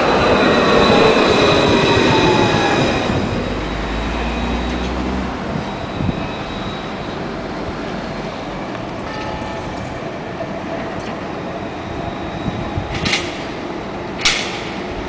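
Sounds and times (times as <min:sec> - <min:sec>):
distant tram running noise: 0:00.0 - 0:15.0
tram electric drive whining: 0:00.0 - 0:15.0.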